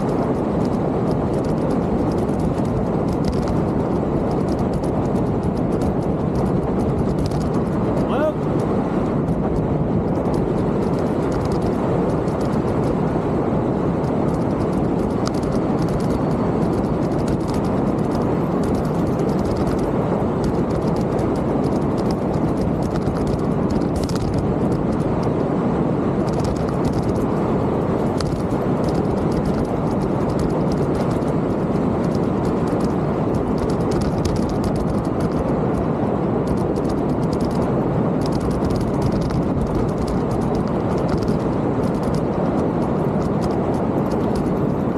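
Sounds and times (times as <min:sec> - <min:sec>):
bike rattling clicks: 0:00.0 - 0:13.0, 0:13.9 - 0:25.4, 0:26.2 - 0:27.4, 0:28.0 - 0:35.8, 0:36.4 - 0:44.9
bike tyre noise: 0:00.0 - 0:44.9
wind rushing: 0:00.0 - 0:44.9.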